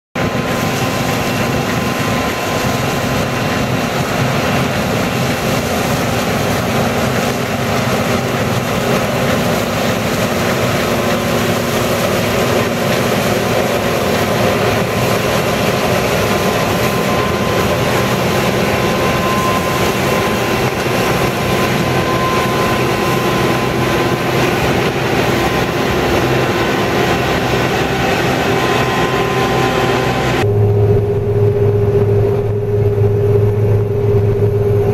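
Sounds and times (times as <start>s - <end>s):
combine harvester running: 0.2s - 34.9s
thin steady whine: 0.2s - 34.9s.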